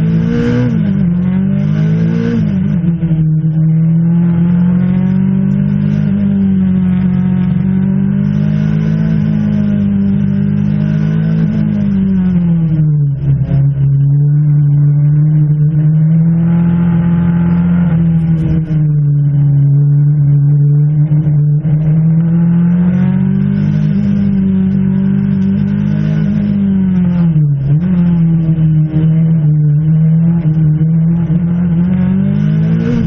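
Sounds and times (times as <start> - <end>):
rally car engine pulling hard: 0.0 - 33.0.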